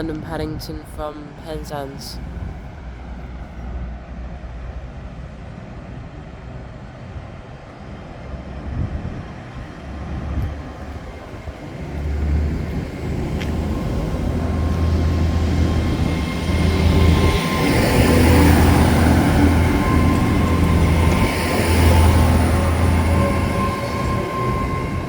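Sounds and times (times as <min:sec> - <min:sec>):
train carriages rolling past: 0:00.0 - 0:25.0
train engines humming low: 0:00.0 - 0:25.0.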